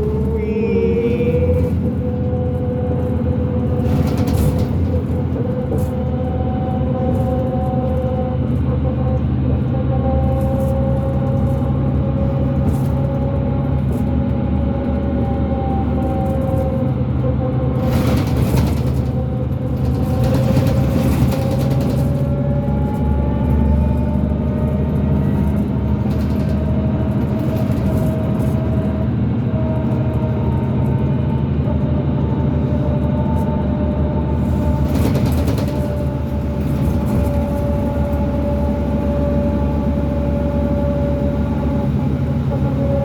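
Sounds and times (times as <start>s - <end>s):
bus engine low drone: 0.0s - 43.0s
drivetrain whine: 0.0s - 43.0s.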